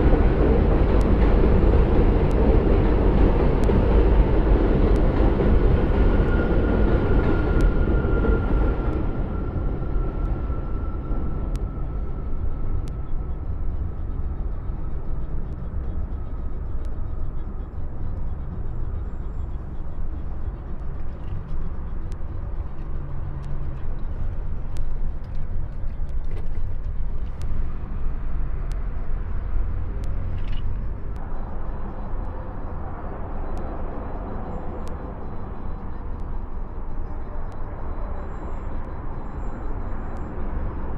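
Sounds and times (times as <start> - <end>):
low rumble of bridge traffic: 0.0 - 40.9
faint high whine: 3.8 - 40.9.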